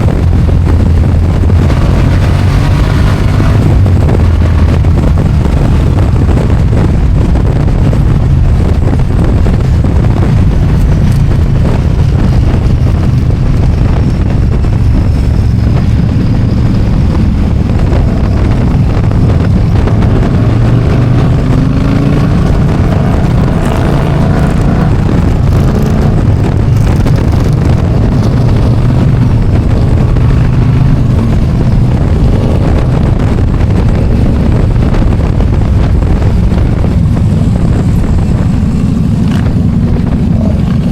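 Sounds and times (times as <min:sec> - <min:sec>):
motorcycle engine rumble: 0:00.0 - 0:40.9
wind rushing over microphone: 0:00.0 - 0:40.9.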